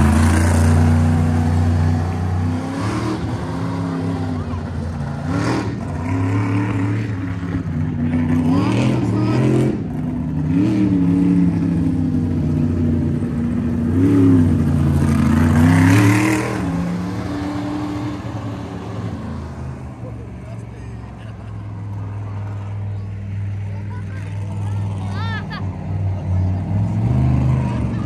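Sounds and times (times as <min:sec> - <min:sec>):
monster truck engine revving: 0:00.0 - 0:28.0.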